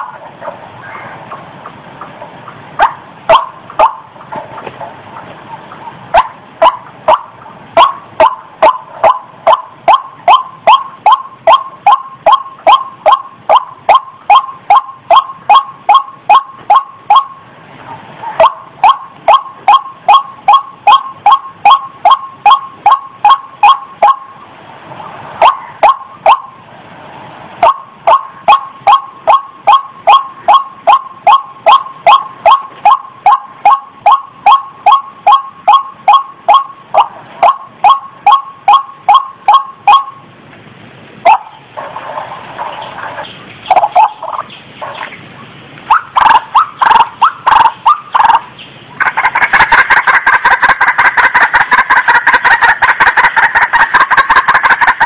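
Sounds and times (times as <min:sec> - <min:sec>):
waterhen calling sharp notes: 0:00.0 - 0:04.4, 0:05.5 - 0:24.4, 0:25.4 - 0:26.6, 0:27.6 - 0:40.3, 0:41.3 - 0:45.2, 0:45.8 - 0:55.0.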